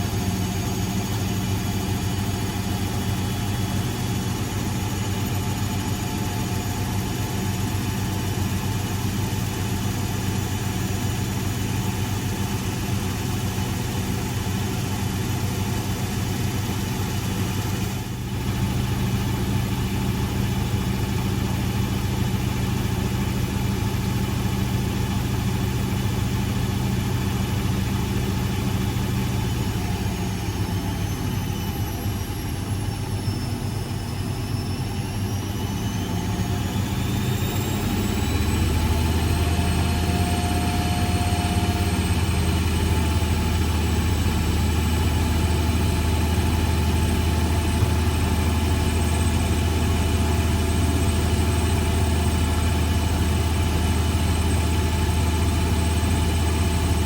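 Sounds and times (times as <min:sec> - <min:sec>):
washing machine humming: 0:00.0 - 0:57.0.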